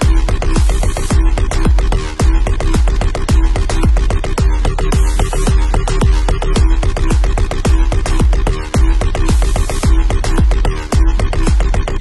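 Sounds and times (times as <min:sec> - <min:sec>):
electronic dance music: 0:00.0 - 0:12.0
heavy kick-drum beat: 0:00.0 - 0:12.0.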